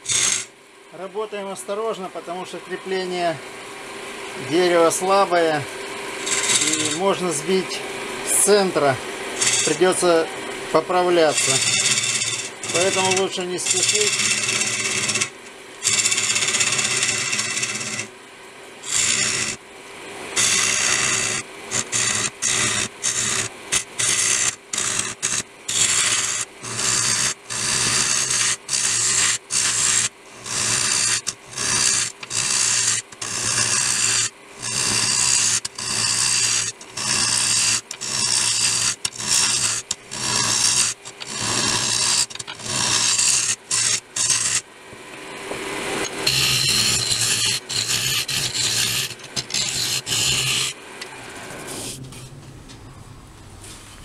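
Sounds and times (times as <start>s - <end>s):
tool scraping wood: 0.0s - 0.5s, 4.3s - 18.1s, 18.8s - 19.6s, 20.4s - 52.4s
wood lathe humming: 0.0s - 53.4s.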